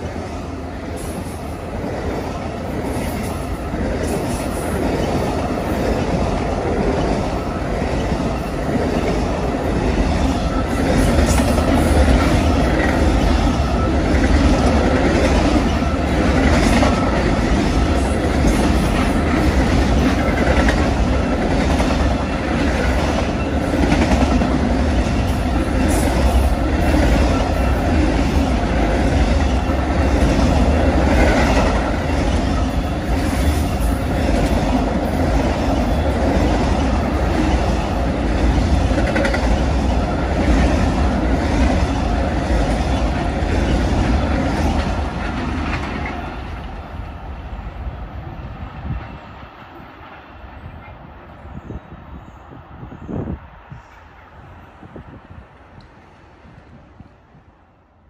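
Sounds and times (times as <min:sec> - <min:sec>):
clickety-clack over rail joints: 0:00.0 - 0:47.2
train wheels rumbling on rails: 0:00.0 - 0:58.0.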